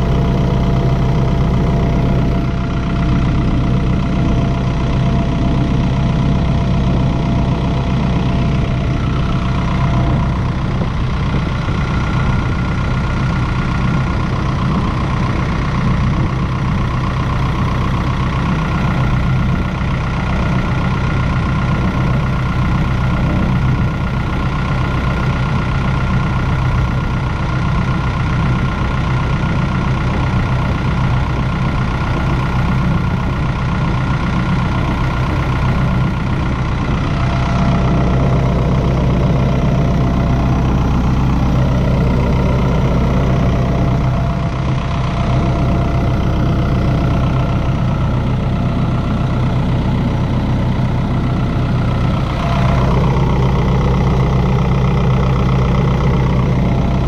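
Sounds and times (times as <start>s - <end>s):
thin steady whine: 0.0s - 24.0s, 34.0s - 57.0s
diesel engine idling: 0.0s - 57.0s.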